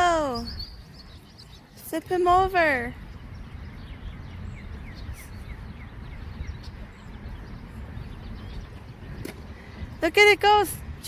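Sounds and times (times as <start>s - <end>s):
low rumble of outdoor noise: 0.0s - 11.0s.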